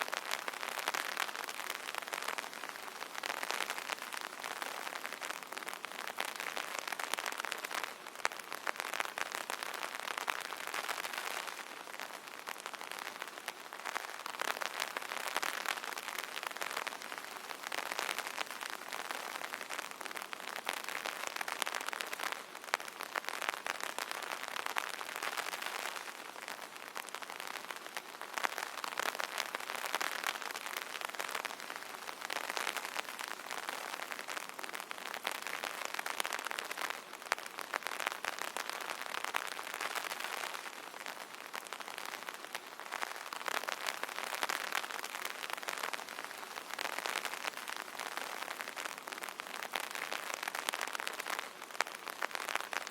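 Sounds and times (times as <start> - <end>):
rain pattering on umbrella: 0.0 - 52.9.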